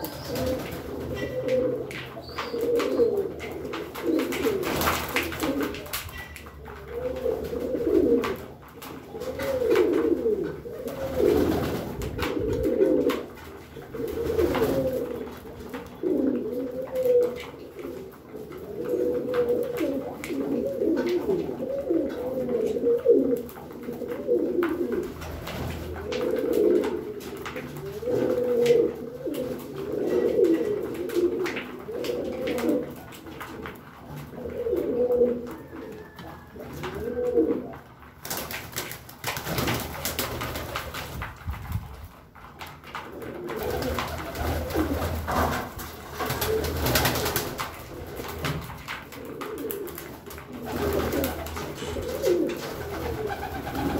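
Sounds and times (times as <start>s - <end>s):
pigeons cooing: 0.0s - 38.0s, 42.9s - 53.9s.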